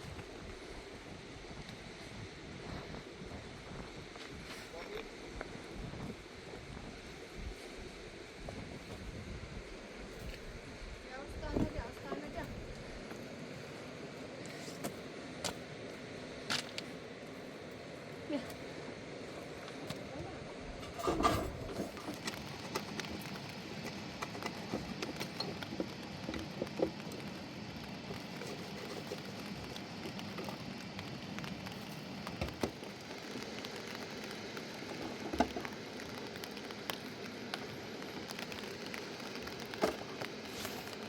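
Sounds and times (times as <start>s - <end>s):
rain pattering: 0.0s - 41.0s.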